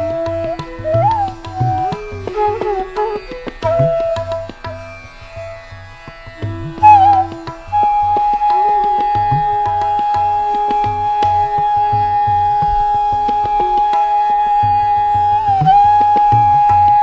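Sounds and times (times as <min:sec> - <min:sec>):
sliding melodic line: 0:00.0 - 0:17.0.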